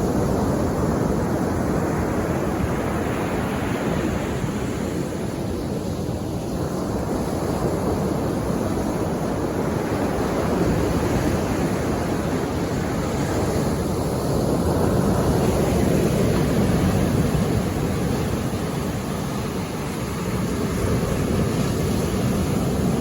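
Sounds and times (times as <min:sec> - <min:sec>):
waves washing on shore: 0:00.0 - 0:23.0.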